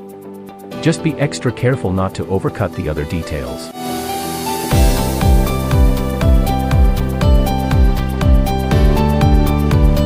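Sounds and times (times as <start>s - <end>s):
background music with bass drum: 0.0s - 10.0s.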